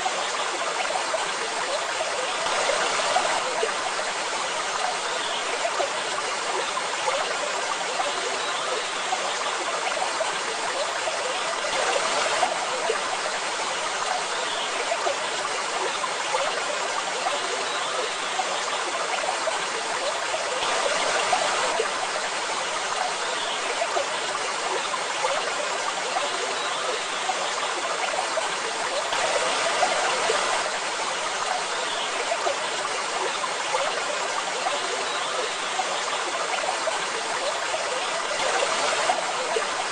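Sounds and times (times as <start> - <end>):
waterfall rushing and splashing: 0.0 - 8.0, 8.8 - 39.9.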